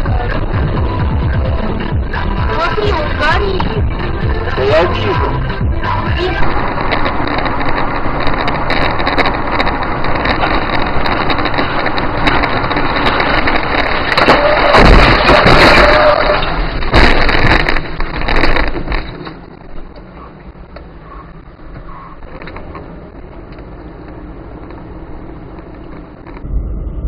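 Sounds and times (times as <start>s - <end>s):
motor vehicle driving: 0.0s - 27.0s.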